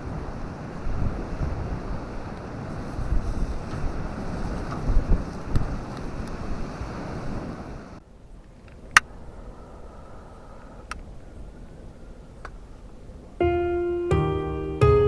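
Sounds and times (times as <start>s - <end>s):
wind buffeting microphone: 0.0s - 13.4s
surf rushing on beach: 0.0s - 13.5s.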